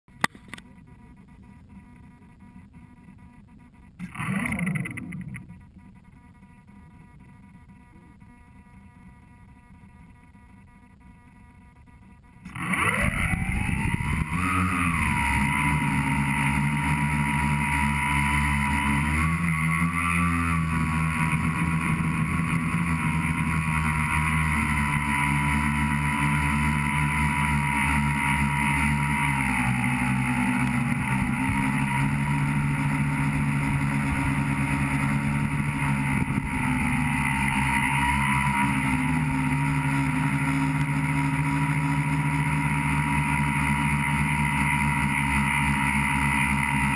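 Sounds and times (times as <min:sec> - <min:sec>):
drone motors whining: 0:00.1 - 0:46.9.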